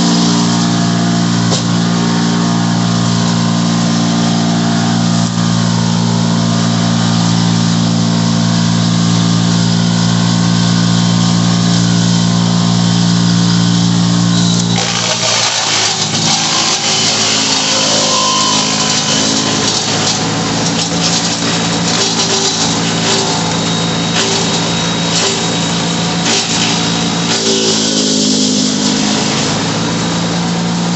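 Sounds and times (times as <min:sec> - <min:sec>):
chipper engine running: 0:00.0 - 0:30.9
wood chipper grinding wood: 0:00.0 - 0:30.9.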